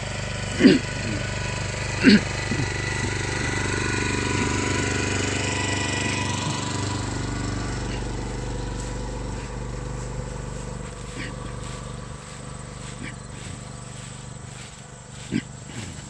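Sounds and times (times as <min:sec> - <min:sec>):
small engine running steadily: 0:00.0 - 0:16.0.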